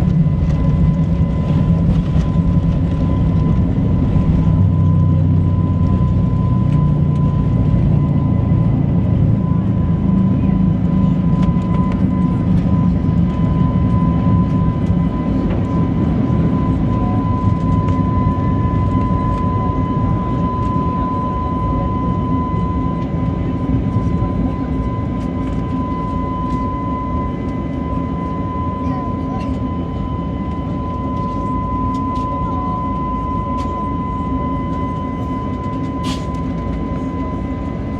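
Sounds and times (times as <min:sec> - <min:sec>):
jet engines rumbling in cabin: 0:00.0 - 0:37.9
thin engine whine: 0:00.0 - 0:37.9.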